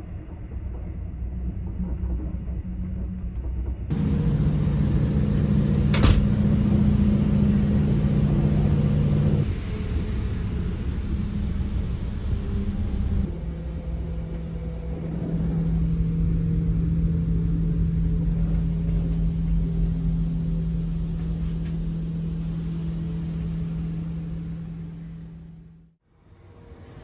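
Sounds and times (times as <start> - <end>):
train carriage rumble: 0.2 - 25.9
steady low hum: 3.9 - 25.9.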